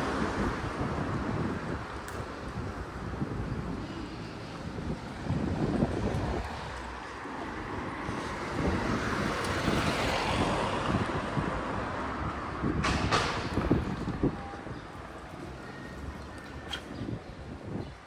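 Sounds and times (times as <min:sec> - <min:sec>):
street noise: 0:00.0 - 0:18.0
wind buffeting microphone: 0:00.0 - 0:18.0.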